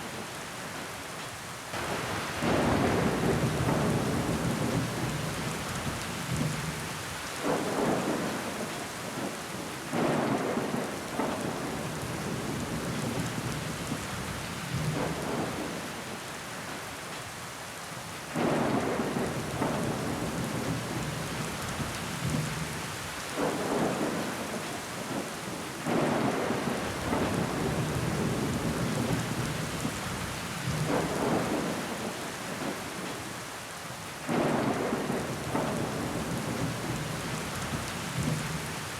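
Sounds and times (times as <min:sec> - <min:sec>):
rain pattering on window: 0:01.2 - 0:17.4, 0:18.3 - 0:33.4, 0:34.2 - 0:38.9.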